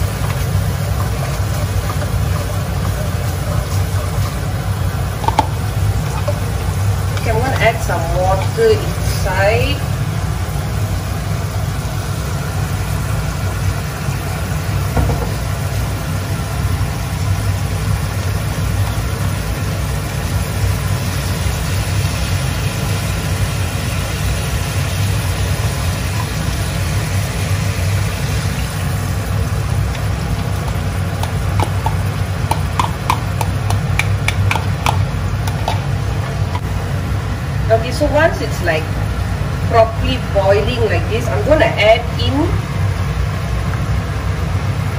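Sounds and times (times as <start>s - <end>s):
low rumble of stove noise: 0.0s - 44.9s.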